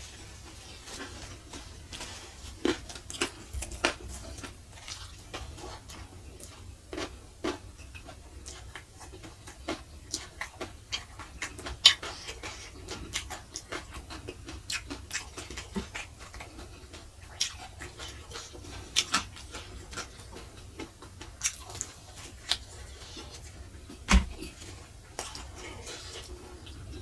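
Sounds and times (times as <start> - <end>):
chewing and wet mouth smacks: 0.9 - 27.0.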